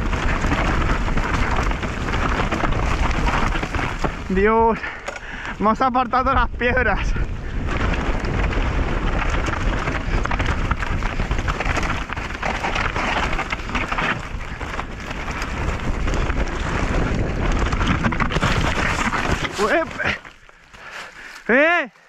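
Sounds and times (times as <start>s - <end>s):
wind buffeting microphone: 0.0s - 21.3s
bike tyres rattling over rocks: 0.0s - 21.8s.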